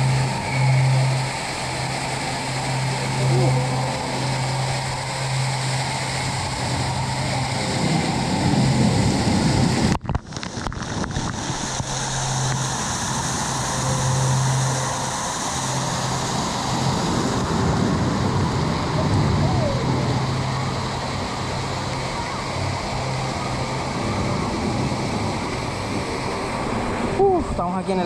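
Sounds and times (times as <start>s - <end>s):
low hum: 0.0s - 28.0s
waterfall rushing: 0.0s - 28.0s.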